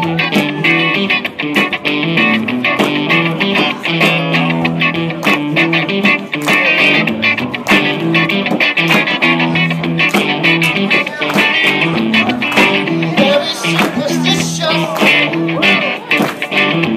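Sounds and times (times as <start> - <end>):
strummed guitar chords: 0.0 - 16.9.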